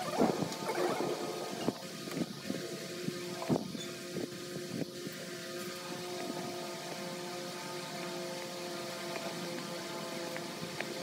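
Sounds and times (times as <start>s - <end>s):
machine hum with held tones: 0.0s - 11.0s.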